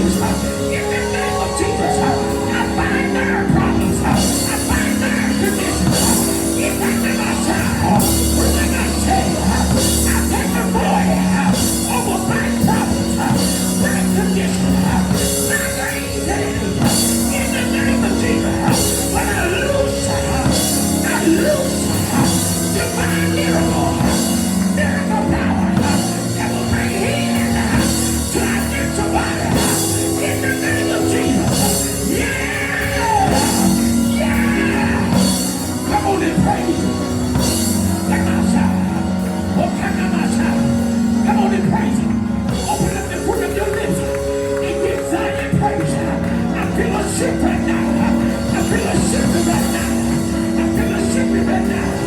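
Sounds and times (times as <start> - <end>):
congregation singing and shouting: 0.0 - 52.0
drum kit playing: 0.0 - 52.0
held keyboard chords: 0.0 - 52.0.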